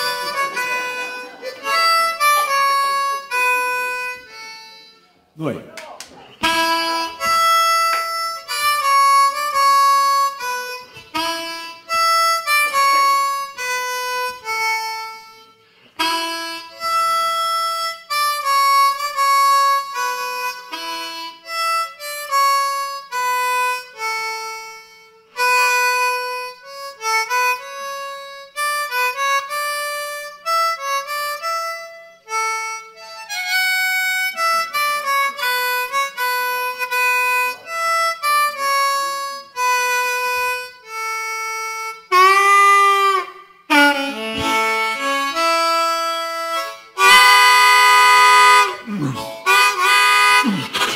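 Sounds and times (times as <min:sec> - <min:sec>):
blues harmonica: 0:00.0 - 0:05.3, 0:06.3 - 0:50.9.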